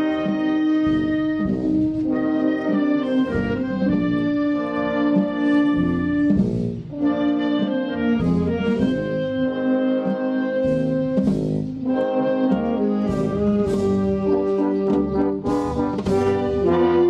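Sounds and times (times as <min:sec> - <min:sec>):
brass band playing slow march: 0:00.0 - 0:17.0.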